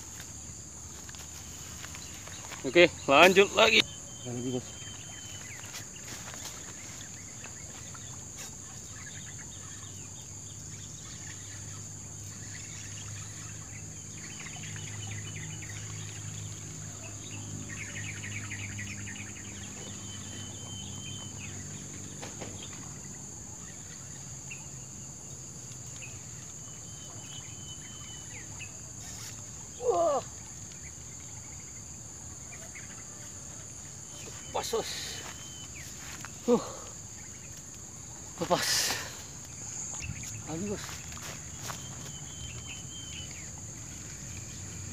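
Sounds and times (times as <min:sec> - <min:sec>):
insect chirps: 0:00.0 - 0:44.9
insect drone: 0:00.0 - 0:44.9.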